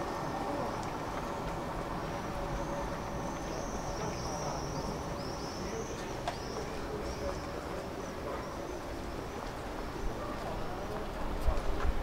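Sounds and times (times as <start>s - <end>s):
tram rumbling along track: 0.0s - 12.0s.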